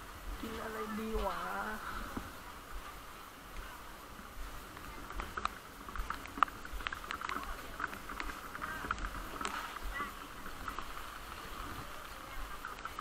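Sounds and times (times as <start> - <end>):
heavy rain on plastic awnings: 0.0 - 13.0
sharp water drips: 0.0 - 13.0.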